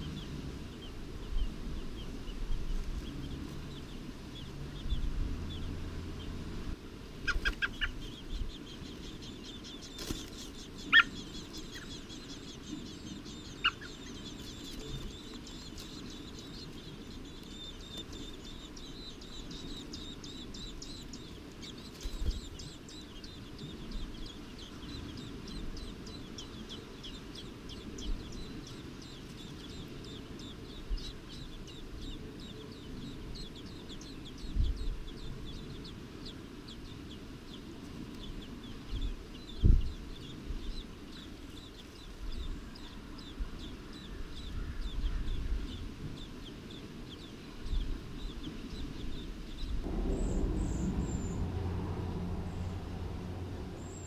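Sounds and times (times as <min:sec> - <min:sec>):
nestlings peeping: 0:00.0 - 0:54.0.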